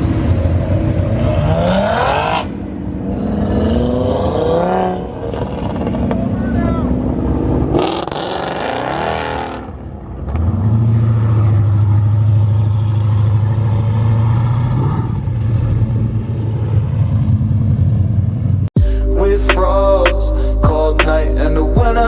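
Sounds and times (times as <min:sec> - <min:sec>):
car engine revving: 0:00.0 - 0:18.6.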